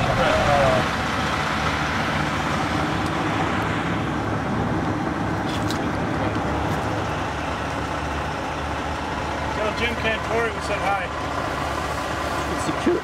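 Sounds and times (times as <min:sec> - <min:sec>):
low engine hum: 0:00.0 - 0:13.0
traffic on wet road: 0:00.0 - 0:13.0.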